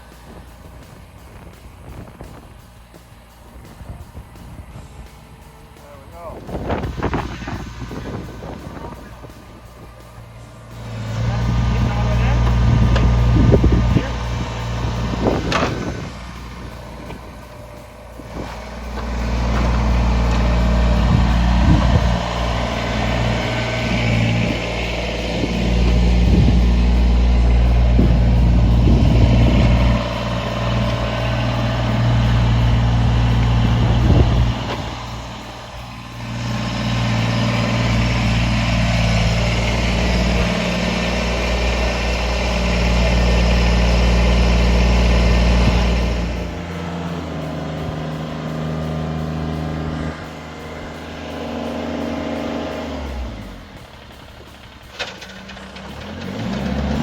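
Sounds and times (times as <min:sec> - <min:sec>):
broad hiss: 0:00.0 - 0:57.0
vehicle engine running: 0:00.0 - 0:57.0.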